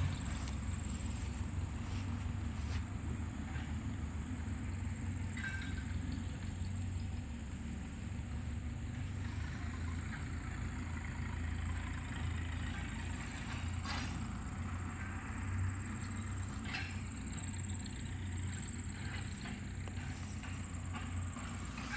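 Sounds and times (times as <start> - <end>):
vehicle engine idling: 0.0 - 21.9.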